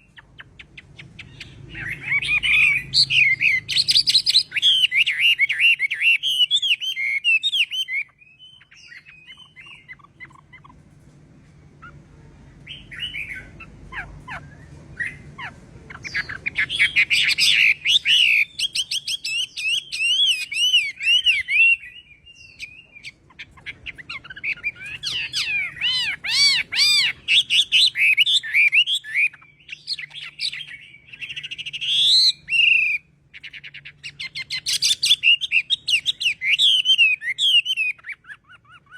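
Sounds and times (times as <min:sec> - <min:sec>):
bird singing whistles and trills: 0:00.0 - 0:10.7, 0:12.6 - 0:38.9.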